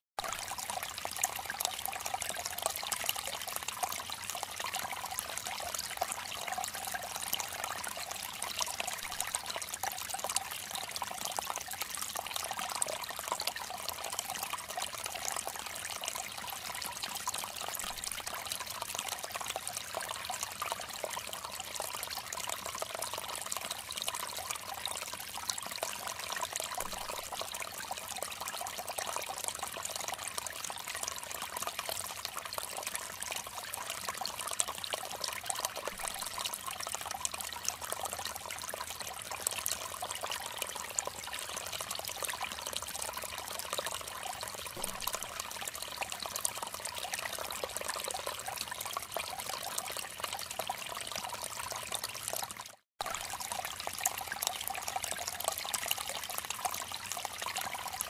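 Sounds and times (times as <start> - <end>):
water trickling and splashing: 0.2 - 58.0.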